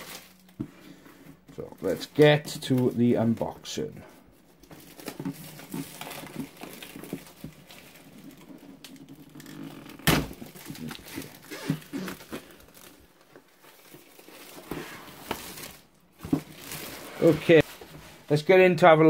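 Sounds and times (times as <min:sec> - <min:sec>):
plastic wrap crinkling: 0:00.0 - 0:00.7, 0:01.5 - 0:18.0.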